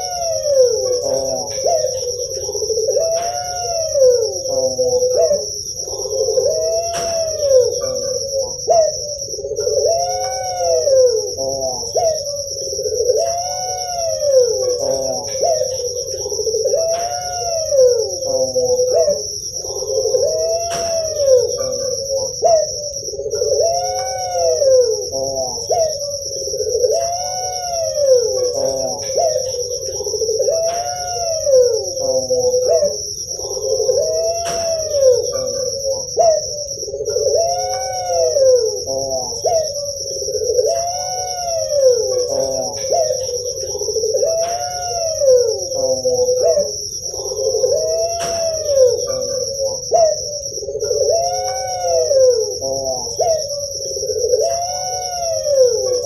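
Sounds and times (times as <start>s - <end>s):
dove cooing: 0.0s - 56.0s
high-pitched shrill like crickets: 0.0s - 56.0s.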